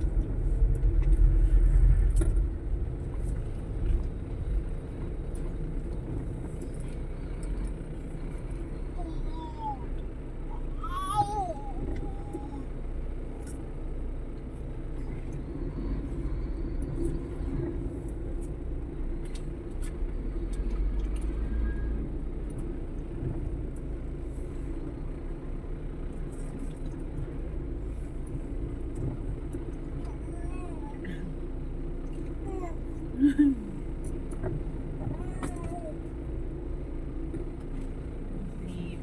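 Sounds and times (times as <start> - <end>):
vehicle engine and road noise: 0.0 - 39.0.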